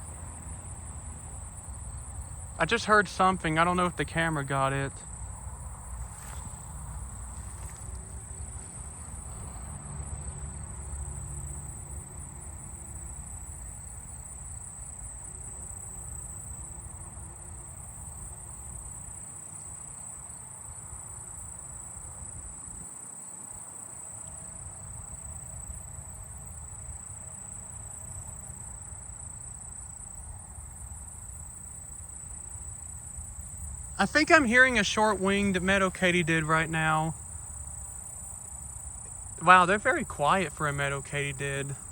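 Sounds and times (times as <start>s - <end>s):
crickets and katydids trilling: 0.0s - 41.9s.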